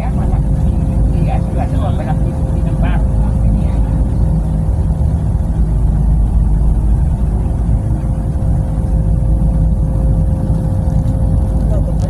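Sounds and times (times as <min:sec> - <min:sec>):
constant hum: 0:00.0 - 0:12.0
train rumble inside carriage: 0:00.0 - 0:12.0.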